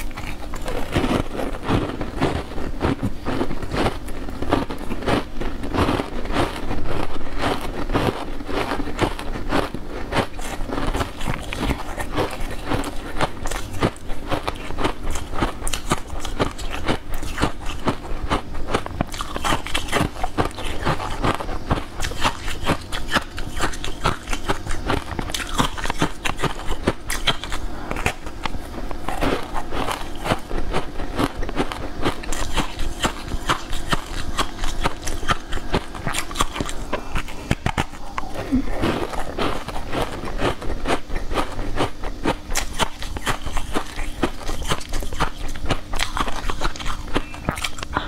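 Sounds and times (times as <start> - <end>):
chewing and wet mouth clicks: 7.4 - 48.0.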